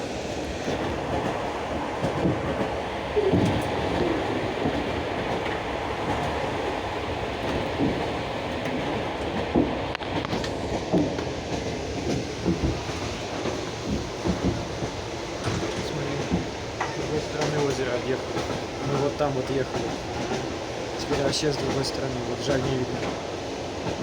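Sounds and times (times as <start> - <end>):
train rolling rumble: 0.0 - 24.0.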